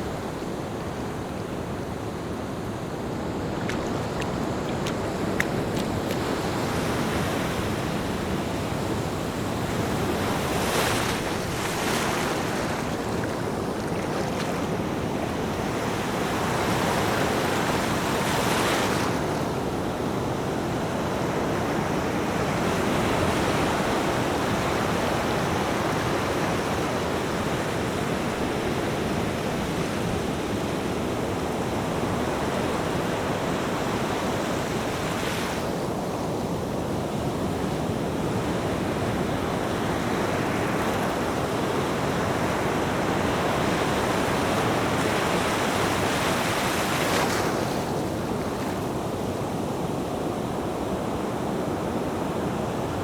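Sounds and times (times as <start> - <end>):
waves breaking with hissing surges: 0.0 - 50.8
ocean waves surf roar: 0.0 - 53.0.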